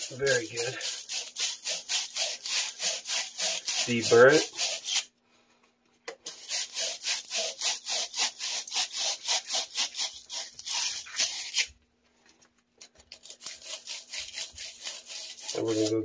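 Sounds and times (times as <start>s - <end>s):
abrasive pad scrubbing copper pipe: 0.0s - 5.1s, 6.3s - 11.6s, 13.2s - 16.0s.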